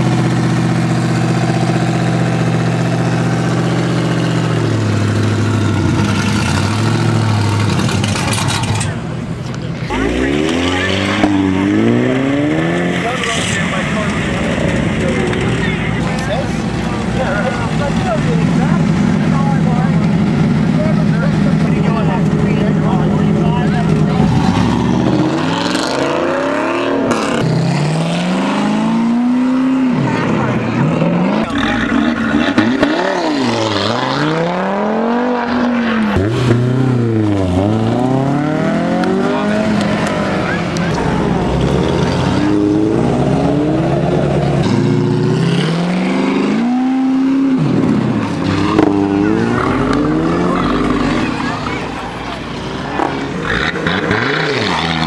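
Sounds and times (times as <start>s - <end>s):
car engine accelerating hard: 0.0s - 9.0s, 9.8s - 55.0s.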